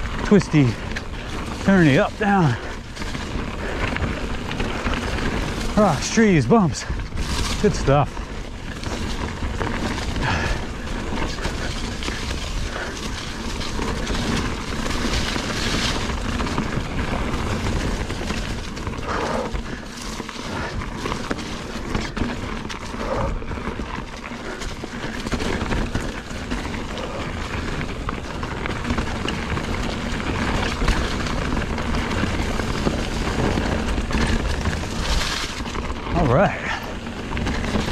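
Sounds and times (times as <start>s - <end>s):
bike tyre and wind noise: 0.0s - 37.9s.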